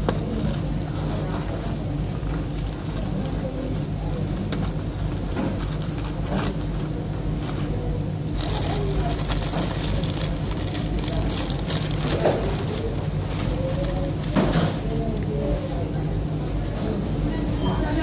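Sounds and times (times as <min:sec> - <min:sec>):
faint voices: 0:00.0 - 0:18.0.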